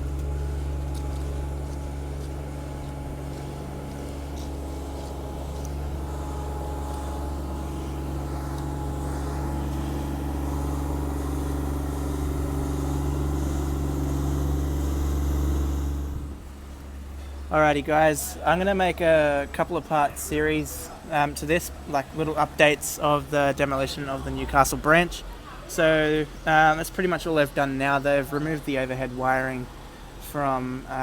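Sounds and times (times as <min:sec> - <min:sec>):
large engine humming: 0:00.0 - 0:26.6.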